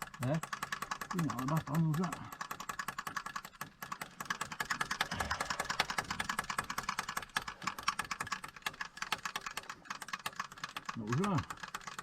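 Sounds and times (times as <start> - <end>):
fuel pump ticking rapidly: 0.0 - 12.0.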